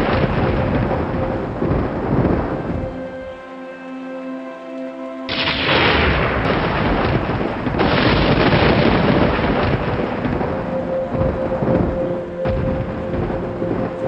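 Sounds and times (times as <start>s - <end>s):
thunder rumbling: 0.0s - 3.4s, 5.3s - 14.0s
soft relaxation music: 0.0s - 14.0s.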